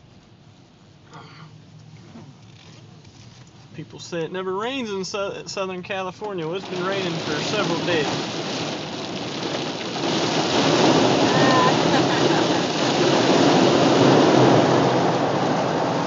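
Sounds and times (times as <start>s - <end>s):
rain runoff pouring onto car: 1.8s - 16.0s.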